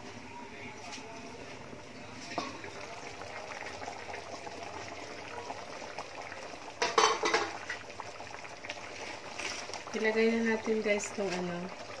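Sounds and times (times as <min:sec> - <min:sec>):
liquid simmering and bubbling: 0:01.4 - 0:12.0.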